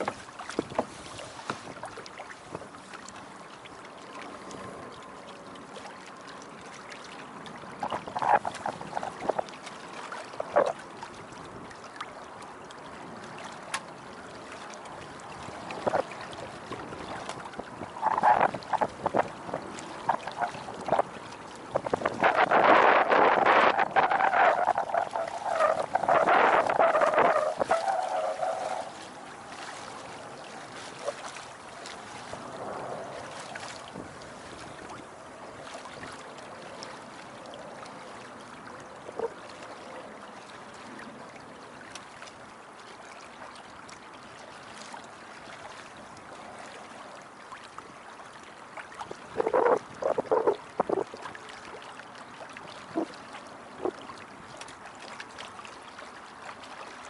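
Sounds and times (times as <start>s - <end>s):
water rushing along boat hull: 0.0s - 57.0s.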